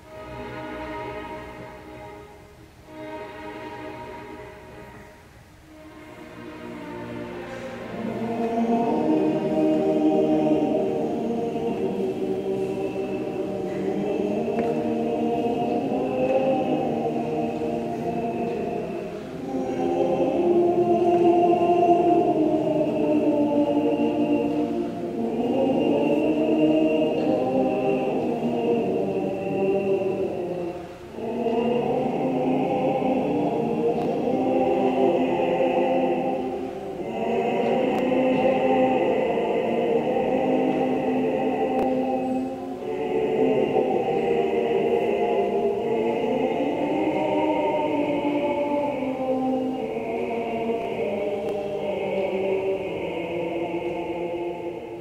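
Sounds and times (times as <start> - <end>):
opera chorus singing: 0.0 - 55.0.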